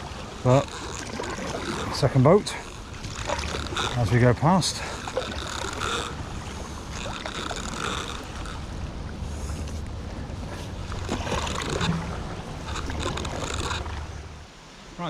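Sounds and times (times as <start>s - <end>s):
boat engine droning: 0.0s - 15.0s
water noise: 0.0s - 15.0s
wind: 0.0s - 15.0s.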